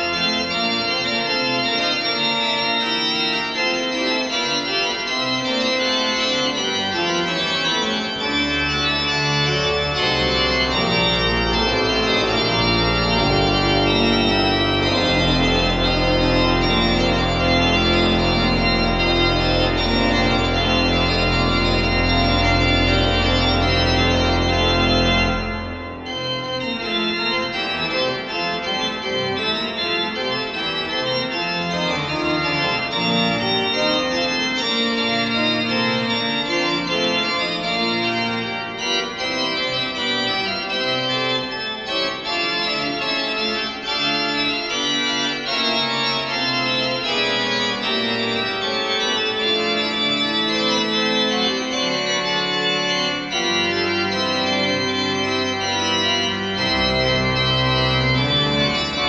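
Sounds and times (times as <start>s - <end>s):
pipe organ playing: 0.0s - 59.0s.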